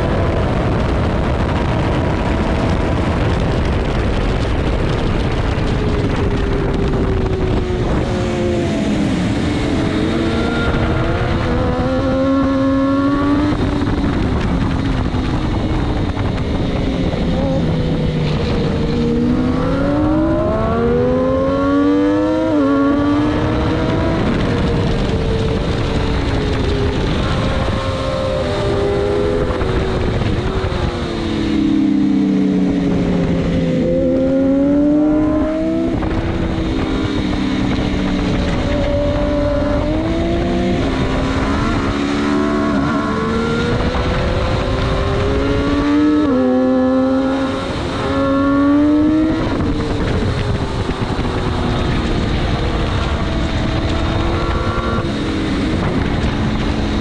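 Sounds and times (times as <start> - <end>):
wind buffeting: 0.0 - 57.0
sportbike engine revving: 1.9 - 57.0.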